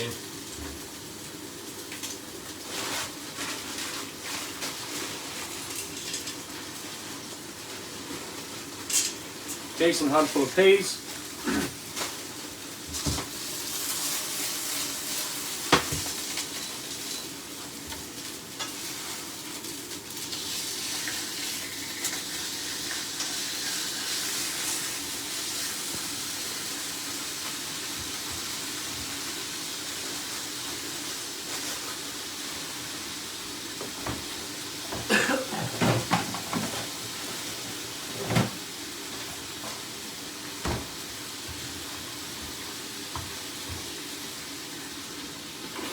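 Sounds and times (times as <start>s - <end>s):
food sizzling in a pan: 0.0s - 45.9s.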